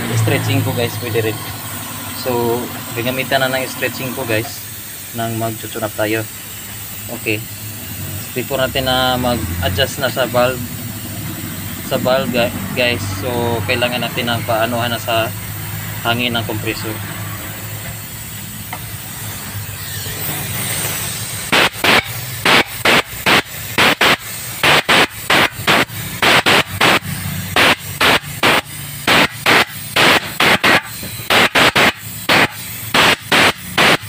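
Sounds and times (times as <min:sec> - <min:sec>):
compressed air hissing: 0:00.0 - 0:34.0
short sharp air blasts: 0:00.0 - 0:34.0.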